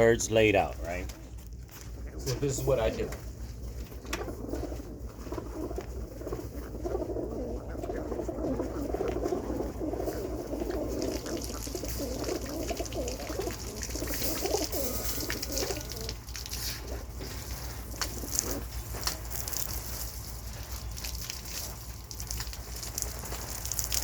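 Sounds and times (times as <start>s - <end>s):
pigeons cooing: 0.9s - 24.0s.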